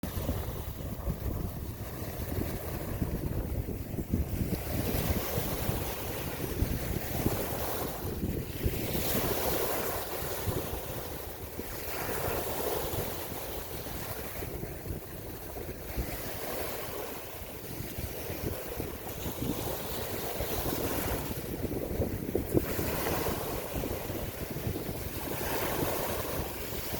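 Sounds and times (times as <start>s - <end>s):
ocean waves washing in: 0.0s - 26.9s
wind buffeting microphone: 0.0s - 26.9s.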